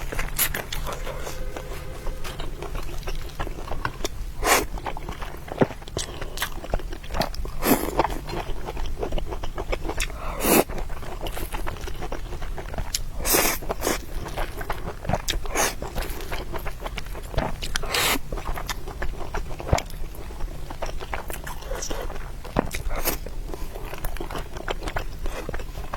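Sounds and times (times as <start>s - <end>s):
biting and chewing: 3.0s - 25.9s.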